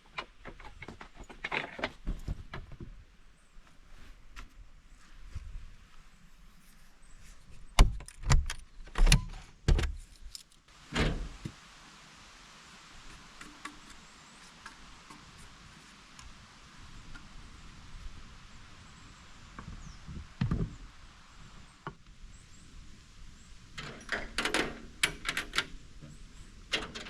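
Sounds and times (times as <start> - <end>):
steady soft hiss: 2.1 - 7.8, 9.4 - 27.0.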